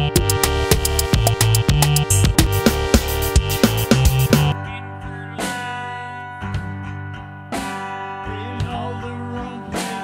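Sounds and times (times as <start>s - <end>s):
strummed guitar chords: 0.0s - 10.0s.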